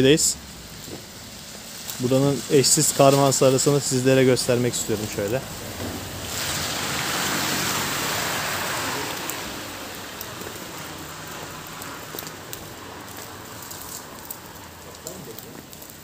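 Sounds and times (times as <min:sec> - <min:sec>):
wet snow falling hiss: 0:00.0 - 0:16.0.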